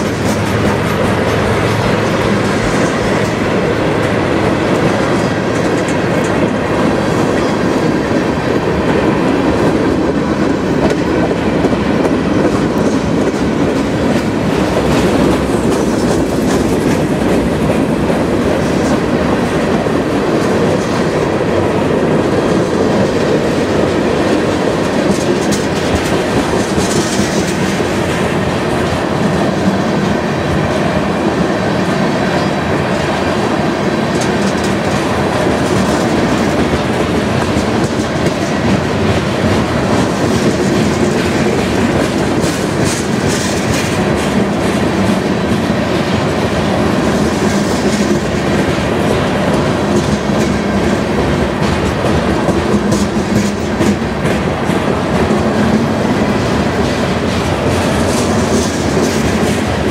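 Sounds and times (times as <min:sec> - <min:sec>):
freight train rolling past: 0:00.0 - 0:59.9
wheels clickety-clack on rail: 0:00.0 - 0:59.9.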